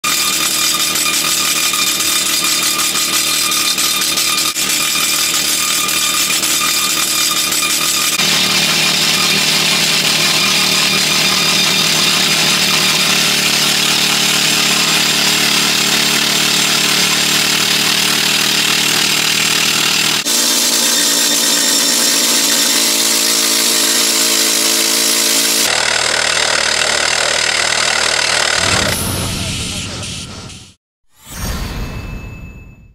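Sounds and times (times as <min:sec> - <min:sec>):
pneumatic rock drill hammering: 0:00.0 - 0:29.0.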